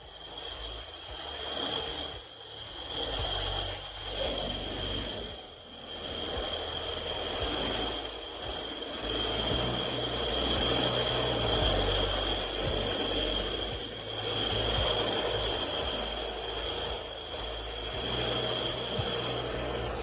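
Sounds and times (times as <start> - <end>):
machine whining and rumbling: 0.0 - 20.0.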